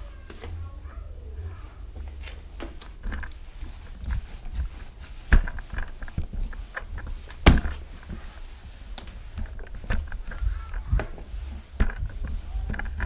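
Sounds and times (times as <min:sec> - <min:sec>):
mop on tile floor: 0:00.0 - 0:13.0
mop knocking hard object: 0:02.1 - 0:13.0.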